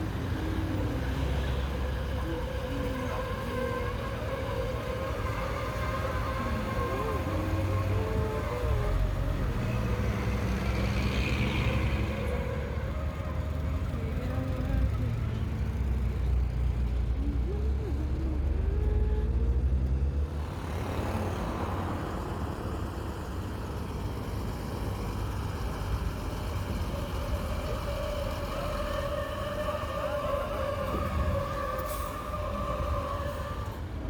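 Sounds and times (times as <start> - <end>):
road noise rush: 0.0 - 34.0
truck engine rumble: 0.0 - 34.0.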